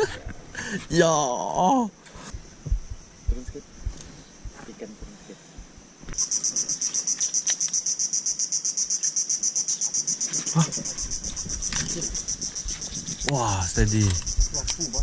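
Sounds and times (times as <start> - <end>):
insect pulsing buzz: 0.0 - 15.0.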